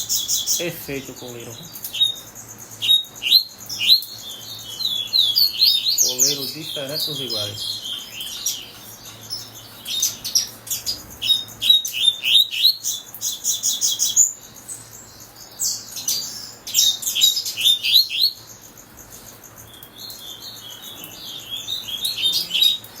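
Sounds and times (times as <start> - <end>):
bird singing high chirps: 0.0 - 23.0.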